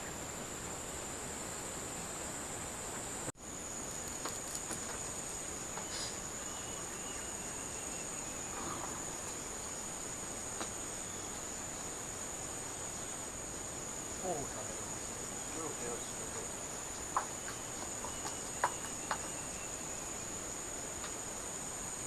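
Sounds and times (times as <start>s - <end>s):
background hiss: 0.0s - 22.0s
insects chirping: 0.0s - 22.0s.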